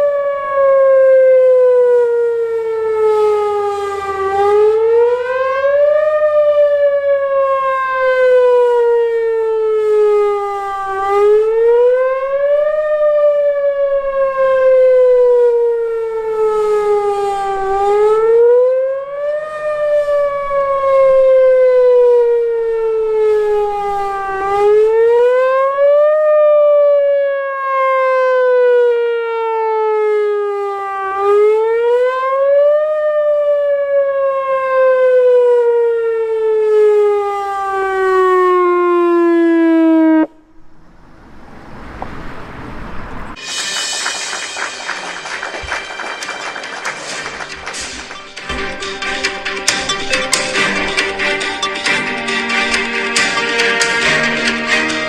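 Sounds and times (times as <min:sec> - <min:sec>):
rising and falling siren wail: 0:00.0 - 0:55.0.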